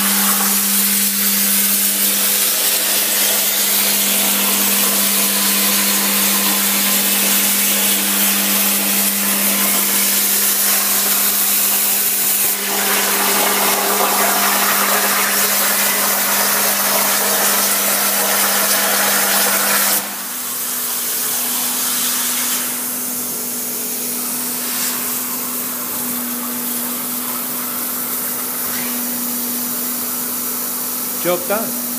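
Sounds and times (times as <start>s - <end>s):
plasma cutter arc hissing: 0.0s - 13.8s, 14.4s - 31.7s.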